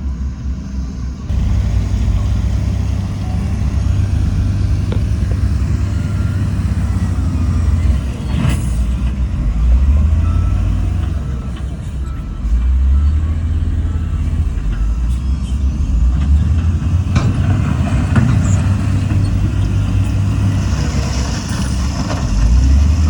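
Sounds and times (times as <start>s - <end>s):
deep diesel engine rumble: 0.0s - 23.0s.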